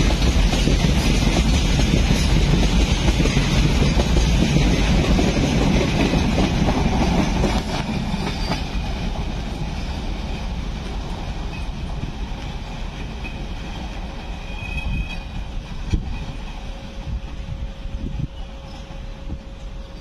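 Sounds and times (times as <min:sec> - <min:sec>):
freight train rumbling over rails: 0:00.0 - 0:20.0.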